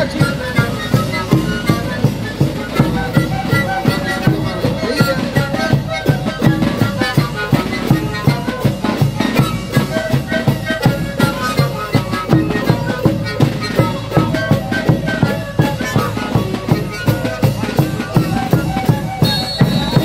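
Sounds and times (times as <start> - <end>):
panpipes playing breathy notes: 0.0 - 20.0.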